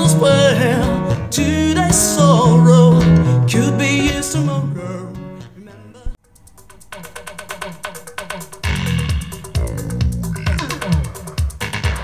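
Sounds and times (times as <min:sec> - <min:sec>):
song over speakers: 0:00.0 - 0:12.0.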